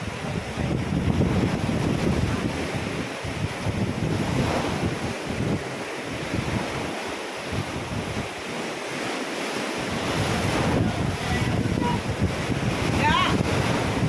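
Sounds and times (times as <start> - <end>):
ocean waves washing in: 0.0 - 14.0
wind buffeting microphone: 0.0 - 14.0.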